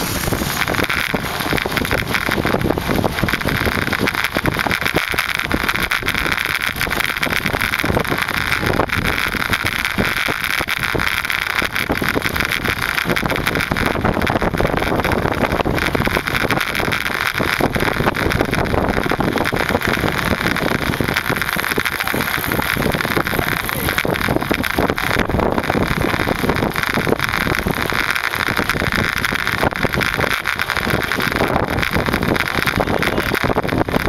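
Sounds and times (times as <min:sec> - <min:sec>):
road noise: 0:00.0 - 0:34.0
wind buffeting microphone: 0:00.0 - 0:34.0.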